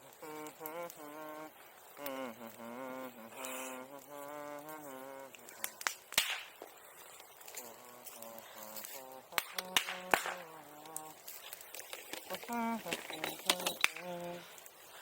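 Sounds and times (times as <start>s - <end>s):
bonfire popping and cracking: 0.0s - 15.0s.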